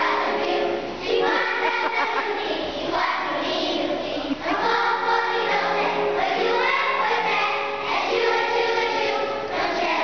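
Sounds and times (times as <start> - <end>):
children's choir singing: 0.0 - 10.0.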